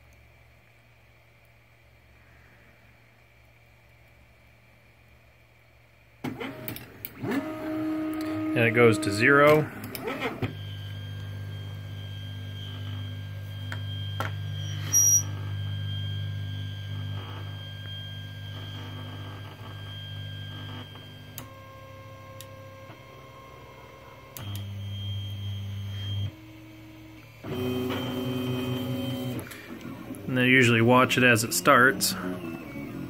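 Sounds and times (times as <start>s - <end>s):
stepper motors whining: 6.3s - 33.0s.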